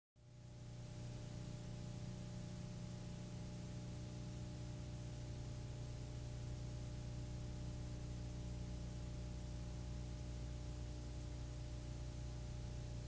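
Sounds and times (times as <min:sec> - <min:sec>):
low electrical hum: 0:00.2 - 0:13.0.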